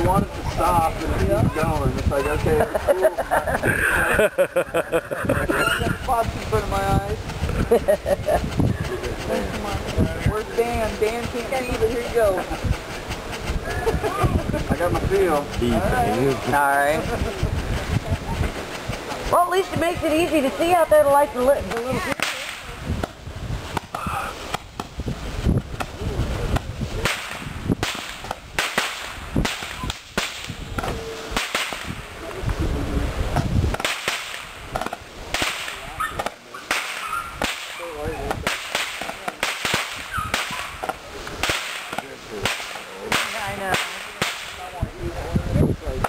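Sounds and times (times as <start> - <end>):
fireworks cracking and popping: 0.0 - 45.2.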